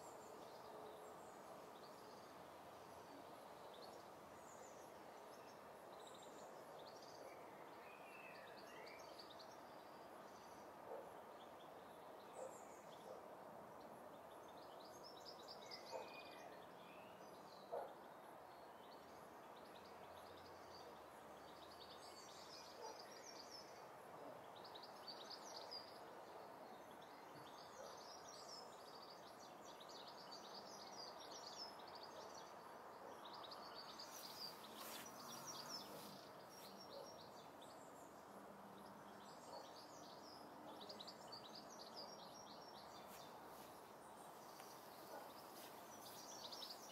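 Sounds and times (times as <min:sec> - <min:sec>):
low room tone hiss: 0:00.0 - 0:46.9.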